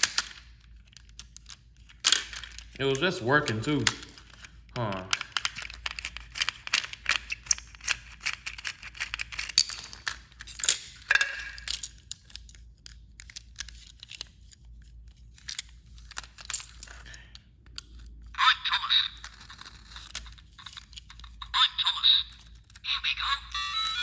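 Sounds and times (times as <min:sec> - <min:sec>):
toy train plastic clicks and rattles: 0:00.0 - 0:24.0.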